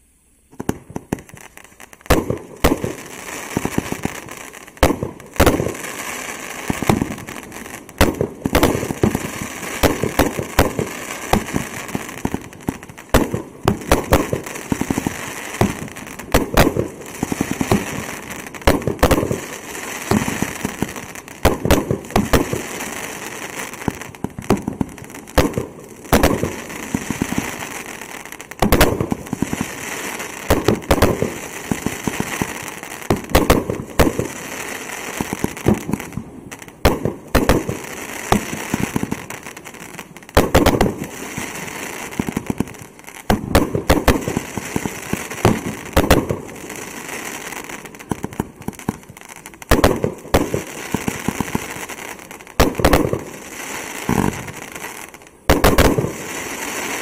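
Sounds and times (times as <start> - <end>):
fireworks bangs: 0.0 - 57.0
fireworks crackling hiss: 0.0 - 57.0.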